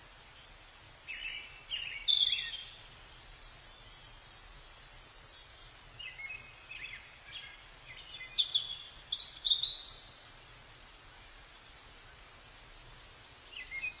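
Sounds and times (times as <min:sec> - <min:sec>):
faint rush of falling water: 0:00.0 - 0:14.0
songbirds chirping: 0:00.0 - 0:14.0.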